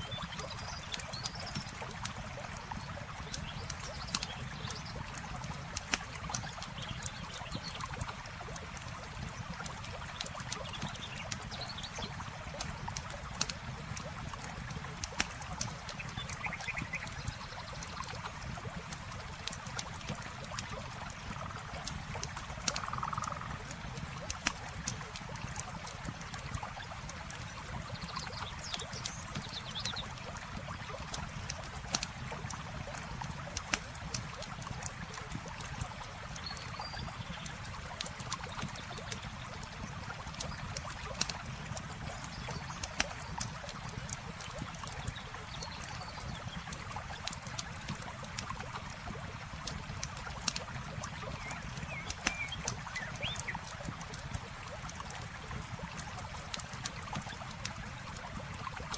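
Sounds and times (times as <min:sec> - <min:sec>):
water trickling: 0:00.0 - 0:58.9
campfire crackling and popping: 0:00.2 - 0:58.9.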